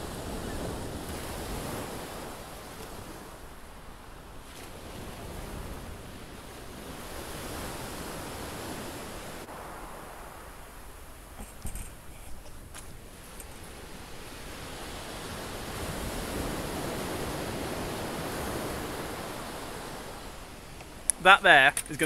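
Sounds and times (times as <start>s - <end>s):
waves breaking on shingle beach: 0.0s - 22.0s.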